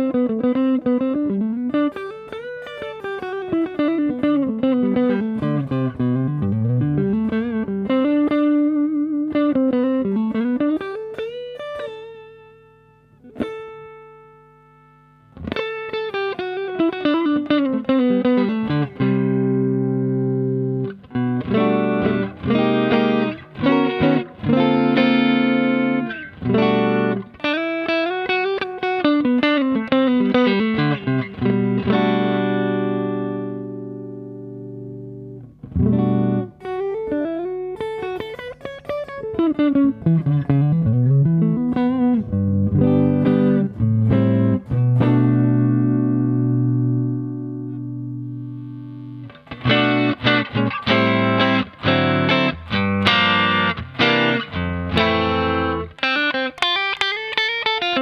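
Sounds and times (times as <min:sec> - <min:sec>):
electric guitar chords: 0:00.0 - 0:58.0
electric guitar single-note lines: 0:00.0 - 0:58.0.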